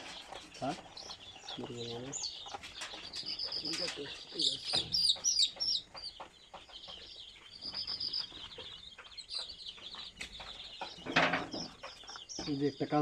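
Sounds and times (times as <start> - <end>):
chicks cheeping: 0.0 - 13.0.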